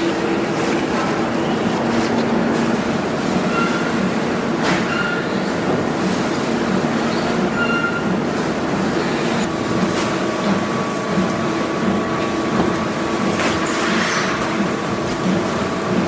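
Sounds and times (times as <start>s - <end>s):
pulsing factory machinery: 0.0s - 16.0s.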